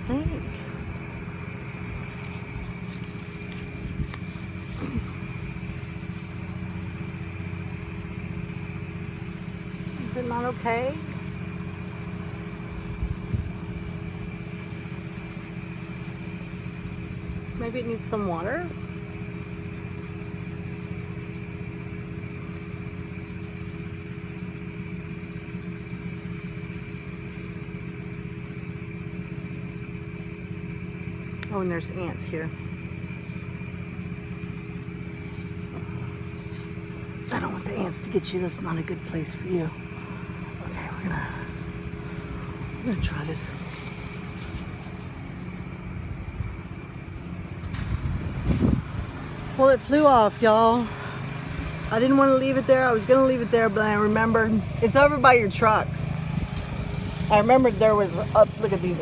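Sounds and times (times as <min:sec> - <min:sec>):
motor humming: 0:00.0 - 0:59.0.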